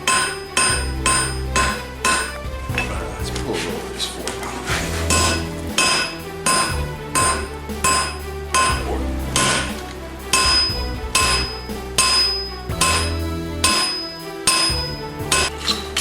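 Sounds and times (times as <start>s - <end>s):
hammer striking steel on anvil: 0.0s - 3.0s, 5.1s - 16.0s.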